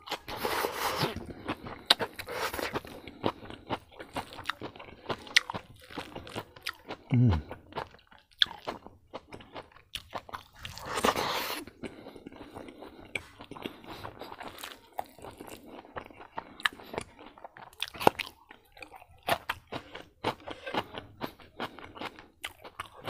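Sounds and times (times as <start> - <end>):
close chewing with wet smacks: 0.0 - 23.0.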